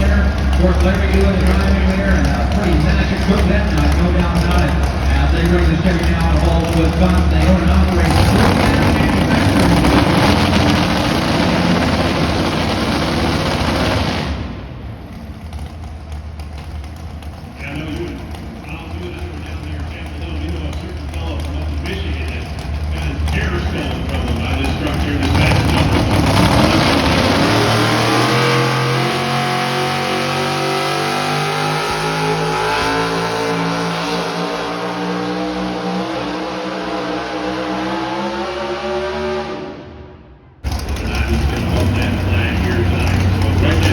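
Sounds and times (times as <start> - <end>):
truck engine at full throttle: 0.0 - 43.9.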